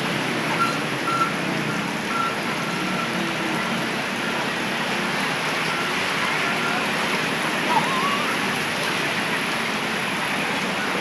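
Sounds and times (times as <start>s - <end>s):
heavy rain on roofs and street: 0.0s - 11.0s.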